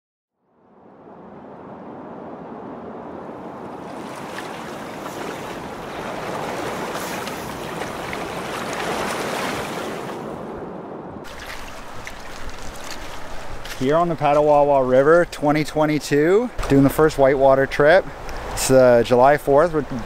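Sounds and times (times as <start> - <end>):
water rushing: 1.2 - 20.0.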